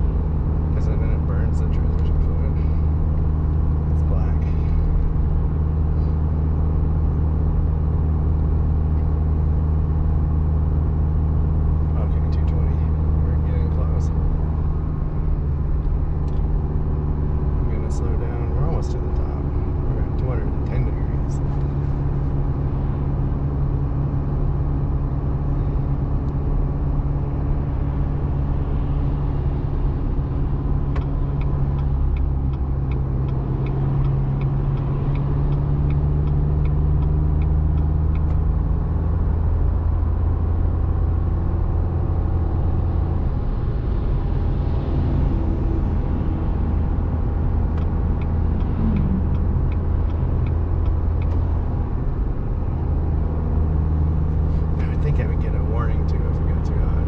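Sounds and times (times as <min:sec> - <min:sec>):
car engine droning under load: 0:00.0 - 0:57.0
road noise: 0:00.0 - 0:57.0.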